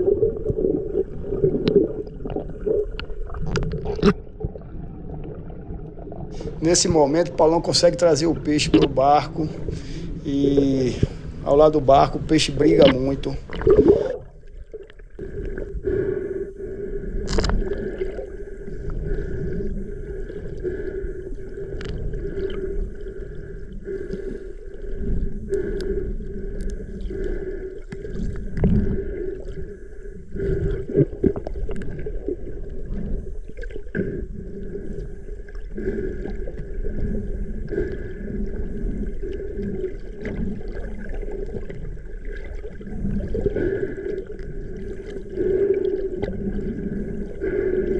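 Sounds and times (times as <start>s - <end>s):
low underwater gurgling: 0.0s - 47.9s
underwater pulsing hum: 0.0s - 47.9s.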